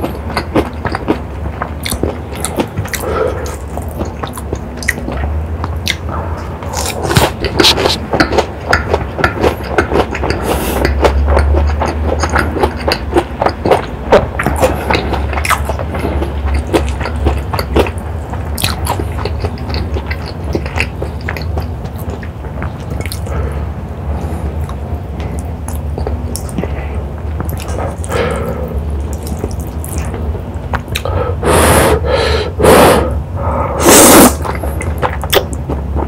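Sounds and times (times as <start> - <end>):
wet chewing mouth sounds: 0.0 - 33.1, 33.7 - 36.0.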